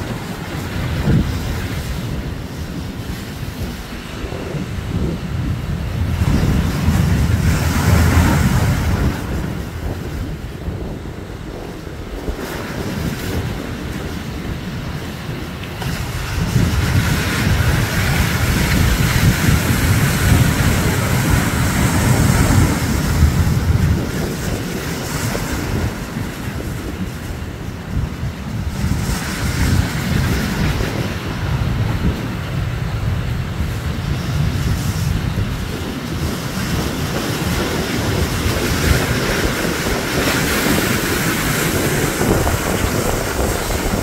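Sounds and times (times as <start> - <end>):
surf breaking over rocks: 0.0 - 44.0.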